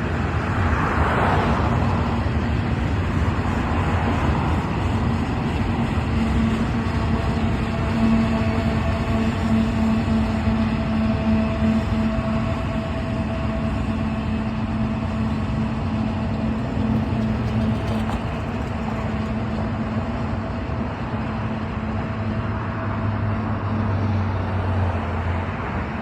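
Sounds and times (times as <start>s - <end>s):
steady droning tone: 0.0s - 25.6s
freight train rumbling past: 0.0s - 26.0s.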